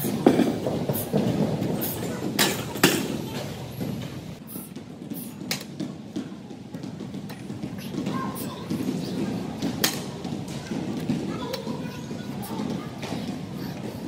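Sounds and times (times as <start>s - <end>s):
low background murmur: 0.0s - 14.0s.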